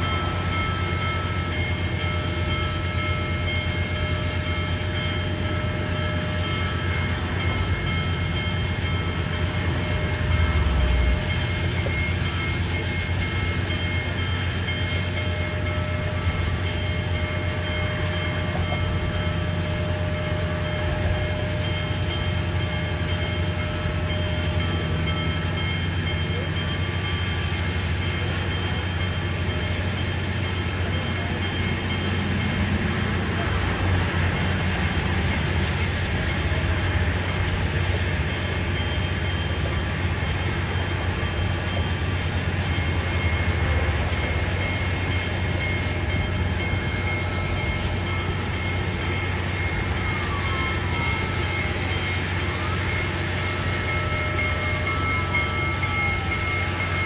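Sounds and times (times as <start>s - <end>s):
steady high whine: 0.0s - 57.0s
steam locomotive rumble and hiss: 0.0s - 57.0s.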